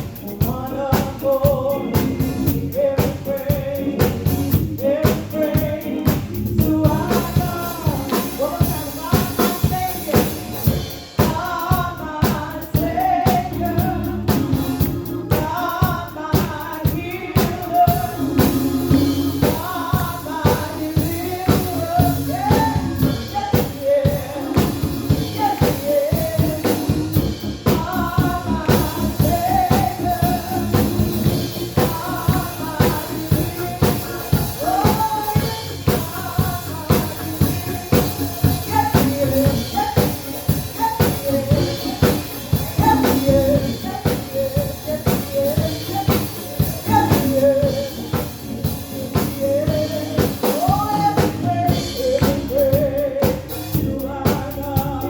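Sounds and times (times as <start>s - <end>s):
drum kit beat: 0.0s - 55.0s
people singing: 0.0s - 55.0s.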